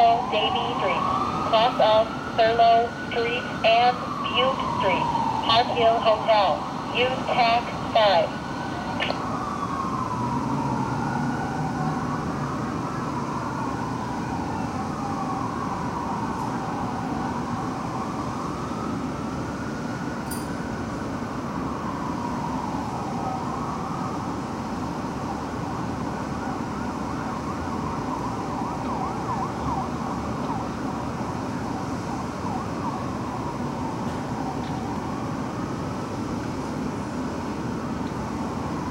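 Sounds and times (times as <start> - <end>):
fire truck siren wailing: 0.0 - 38.9
low rumble of engines and traffic: 0.0 - 38.9.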